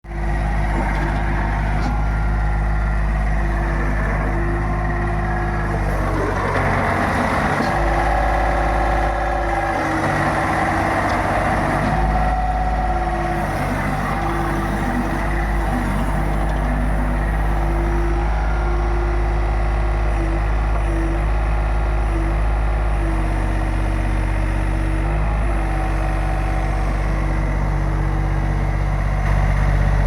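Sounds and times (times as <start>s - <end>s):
pile driver engine humming: 0.0s - 30.0s.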